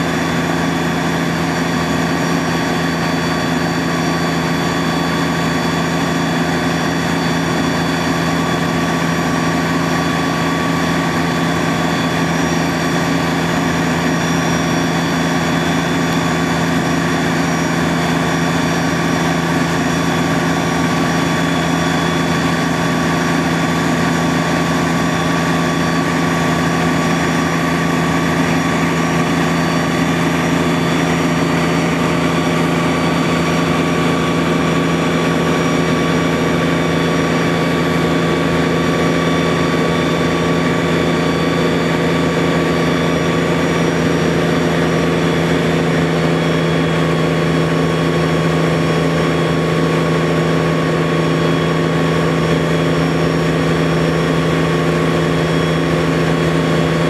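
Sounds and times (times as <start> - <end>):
fire engine motor droning: 0.0 - 57.0.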